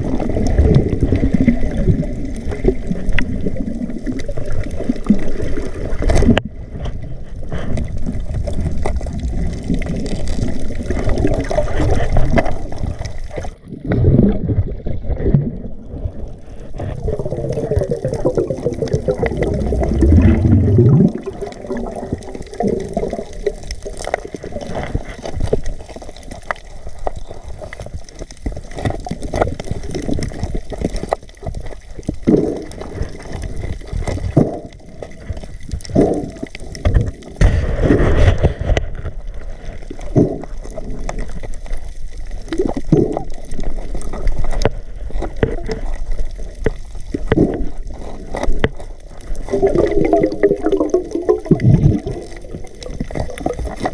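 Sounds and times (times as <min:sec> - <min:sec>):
rush of water: 0:00.0 - 0:53.9
water sloshing and gurgling: 0:00.0 - 0:53.9.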